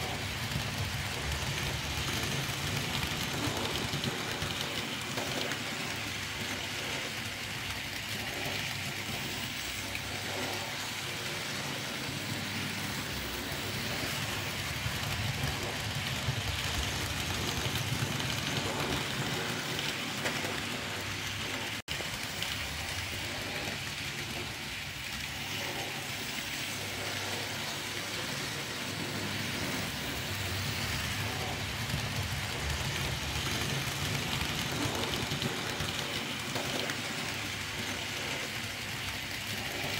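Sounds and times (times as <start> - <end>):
model train motor whirring: 0.0 - 39.9
wheels rumbling on rails: 0.0 - 39.9.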